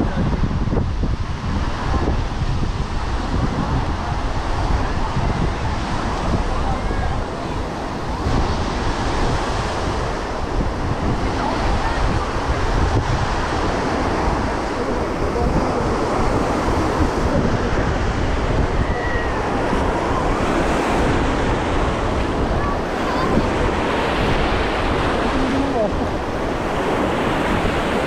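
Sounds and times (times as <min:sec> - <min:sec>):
sea surf washing onto beach: 0:00.0 - 0:28.0
wind buffeting microphone: 0:00.0 - 0:28.0.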